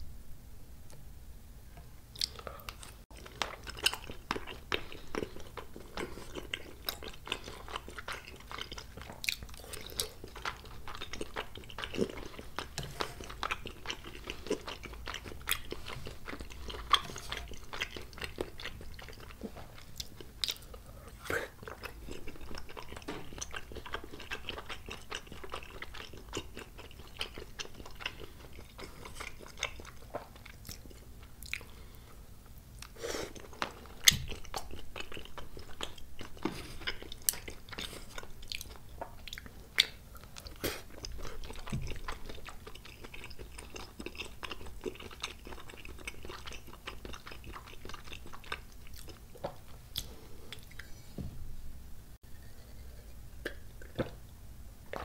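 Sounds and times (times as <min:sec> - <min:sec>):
close chewing with mouth clicks: 0:02.2 - 0:51.0, 0:52.5 - 0:54.3.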